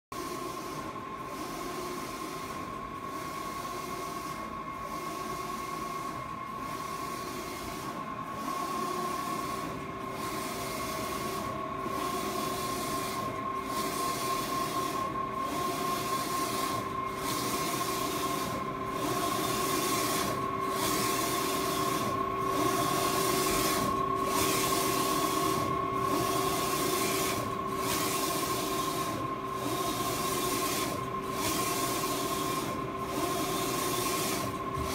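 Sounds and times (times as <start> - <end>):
inkjet printer carriage whirring: 0.4 - 34.9.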